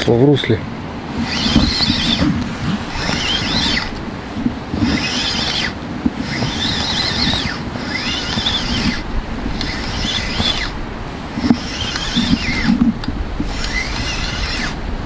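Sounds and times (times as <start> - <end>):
wind rumble: 0.0 - 15.0
fishing reel whirring: 1.1 - 14.8.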